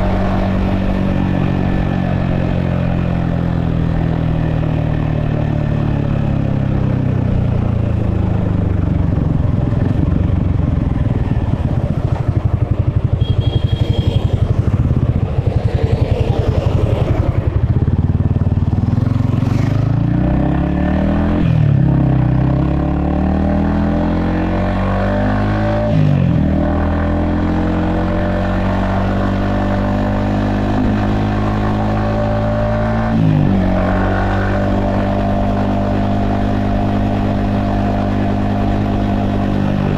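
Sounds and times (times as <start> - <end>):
motorcycle engine revving and shifting: 0.0 - 39.9.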